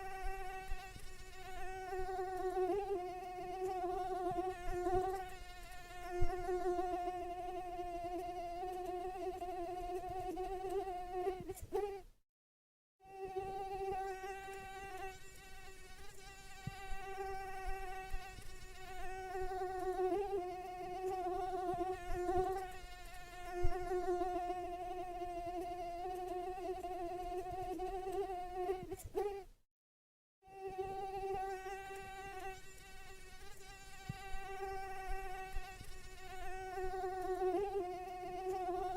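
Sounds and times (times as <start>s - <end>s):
mosquito whine: 0.0s - 12.0s, 13.0s - 29.5s, 30.4s - 38.9s.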